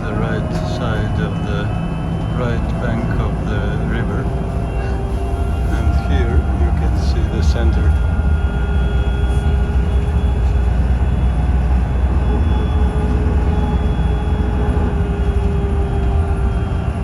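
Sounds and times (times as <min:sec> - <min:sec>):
trolleybus rumble: 0:00.0 - 0:17.0.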